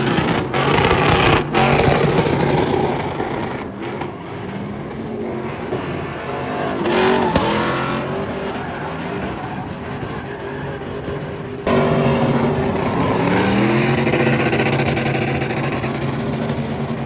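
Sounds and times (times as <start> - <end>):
vehicle engines revving: 0.0 - 17.0.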